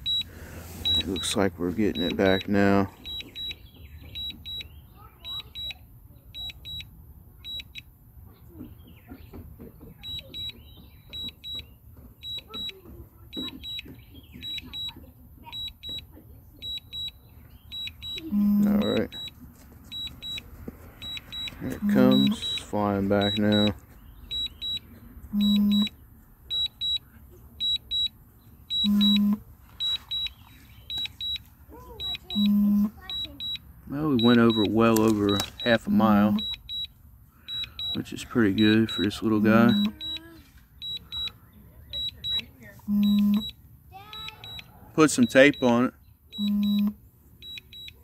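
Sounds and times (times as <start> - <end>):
high double beeps: 0.0 - 7.9, 10.0 - 20.4, 21.0 - 31.4, 32.0 - 48.0.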